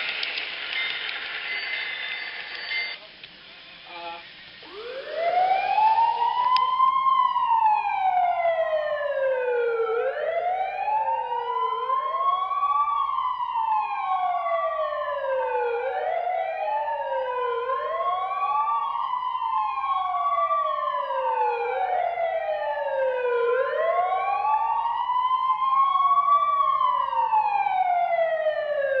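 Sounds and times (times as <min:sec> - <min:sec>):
emergency sirens wailing: 0:04.6 - 0:29.0.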